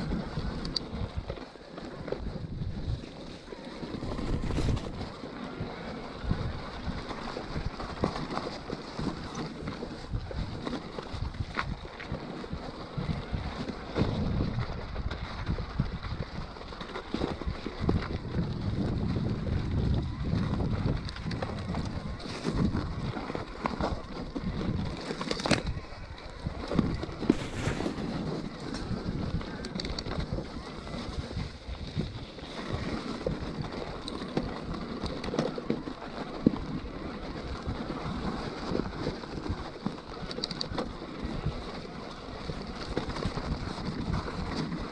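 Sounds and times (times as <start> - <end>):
bike knocking and rattling: 0.0 - 44.9
bike tyres rolling: 0.0 - 44.9
wind buffeting microphone: 0.0 - 44.9.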